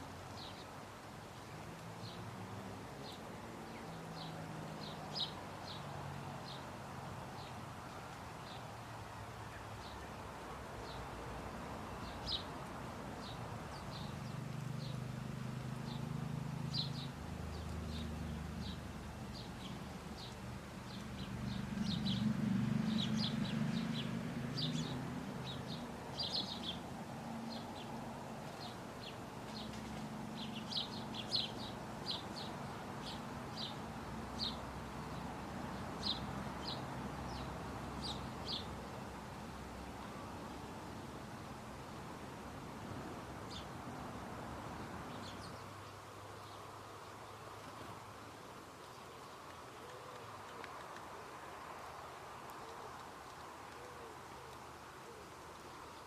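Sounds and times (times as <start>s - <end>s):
small birds chirping: 0.0s - 42.2s, 43.0s - 56.0s.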